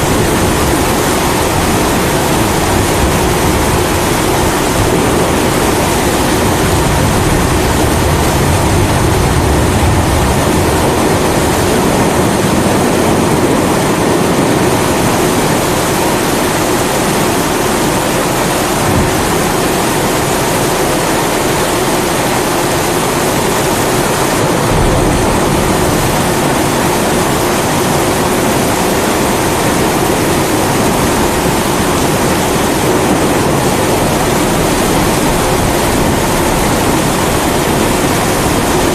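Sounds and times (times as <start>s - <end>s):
heavy rain hissing: 0.0s - 38.9s
thunder rumbling: 0.0s - 38.9s.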